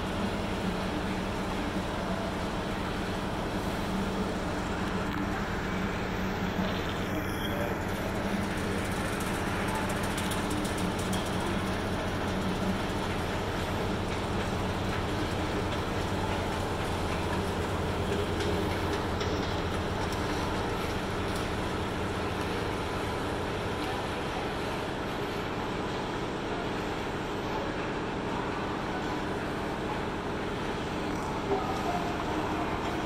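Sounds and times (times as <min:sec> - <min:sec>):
escalator rumble and hum: 0:00.0 - 0:33.0.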